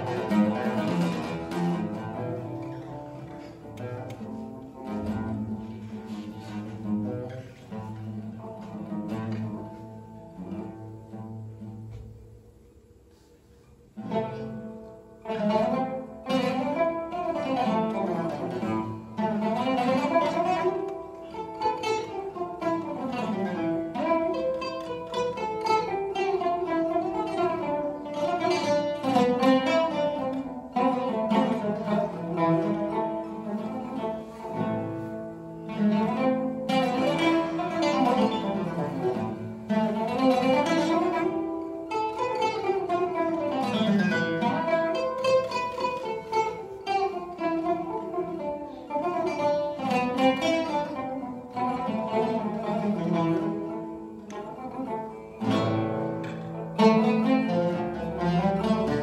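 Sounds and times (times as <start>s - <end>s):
plucked string instrumental music: 0.0s - 59.0s.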